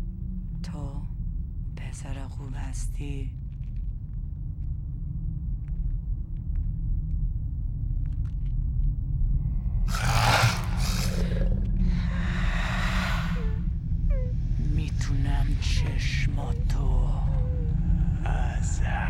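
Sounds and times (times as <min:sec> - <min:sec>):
low droning rumble: 0:00.0 - 0:19.0.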